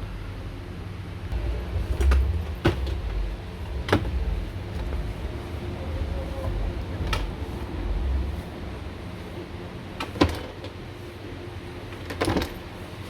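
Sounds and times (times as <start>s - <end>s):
low handling rumble: 1.2s - 11.9s.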